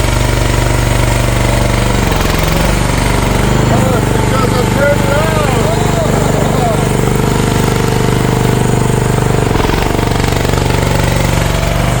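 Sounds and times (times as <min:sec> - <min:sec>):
mini excavator engine running: 0:00.0 - 0:12.0.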